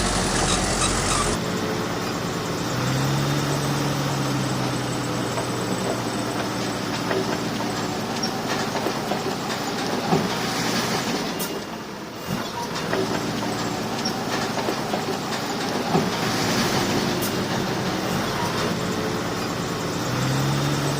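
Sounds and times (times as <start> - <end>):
steel tracks clanking: 0.0 - 2.4, 4.1 - 20.9
bulldozer diesel engine running: 0.0 - 20.9.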